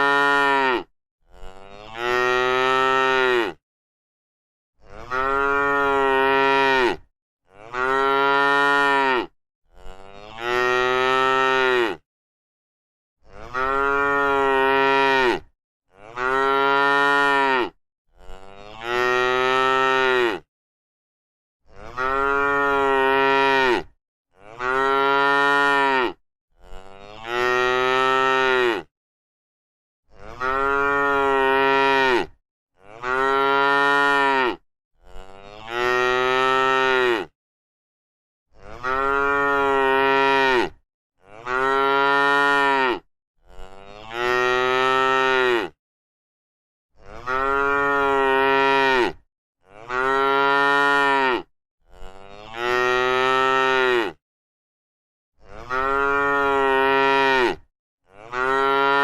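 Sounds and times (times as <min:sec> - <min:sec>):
cow mooing: 0:00.0 - 0:03.6, 0:04.9 - 0:12.0, 0:13.2 - 0:20.5, 0:21.7 - 0:28.9, 0:30.1 - 0:37.3, 0:38.6 - 0:45.8, 0:47.0 - 0:54.2, 0:55.4 - 0:59.0.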